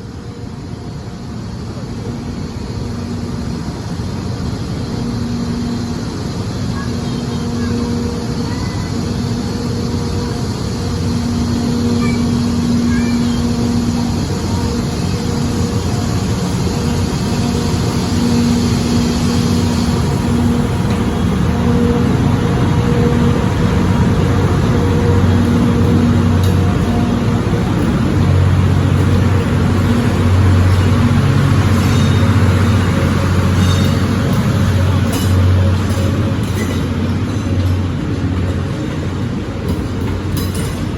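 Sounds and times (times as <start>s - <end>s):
electric locomotive rumbling: 0.0s - 40.9s.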